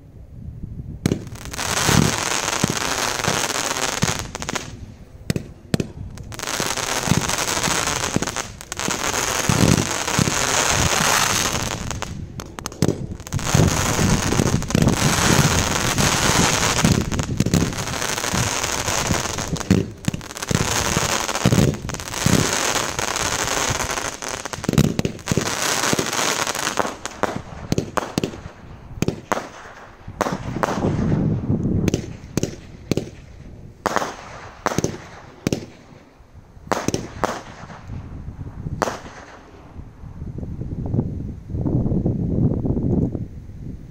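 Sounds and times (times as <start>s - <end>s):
fireworks shots and bursts: 1.0s - 38.0s, 38.8s - 39.7s.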